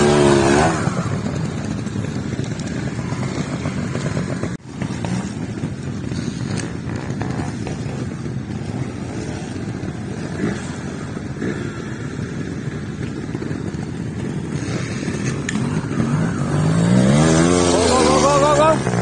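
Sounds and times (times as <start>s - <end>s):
motorcycle engines idling: 0.0s - 19.0s
motorcycle revving up: 0.0s - 19.0s.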